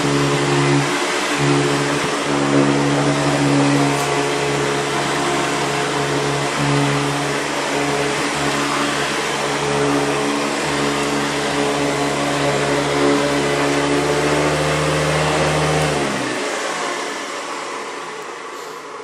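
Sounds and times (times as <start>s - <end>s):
motor winding down: 0.0s - 18.3s
vacuum cleaner running: 0.0s - 19.0s.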